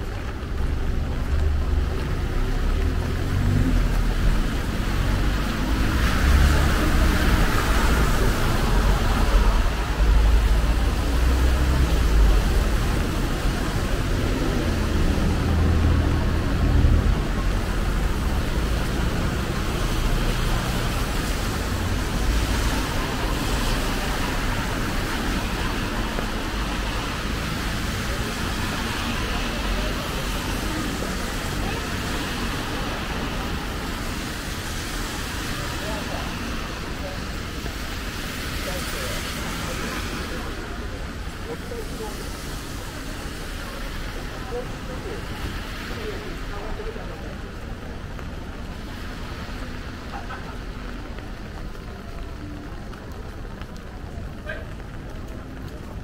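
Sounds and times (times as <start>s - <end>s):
cars passing on wet road: 0.0s - 56.0s
low traffic rumble: 0.0s - 56.0s.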